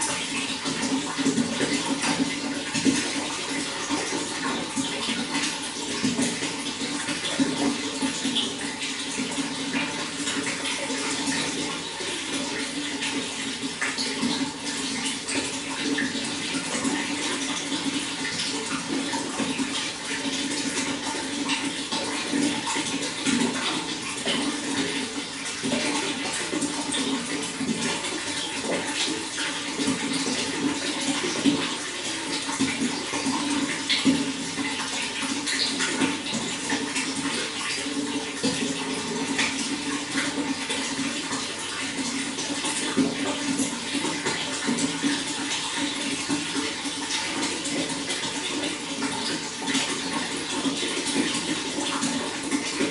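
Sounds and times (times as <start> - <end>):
water running and splashing: 0.0 - 52.9.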